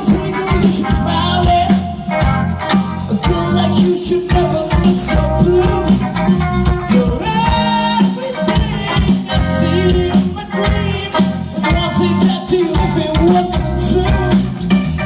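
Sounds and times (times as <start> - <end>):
loud song over sound system: 0.0 - 15.0.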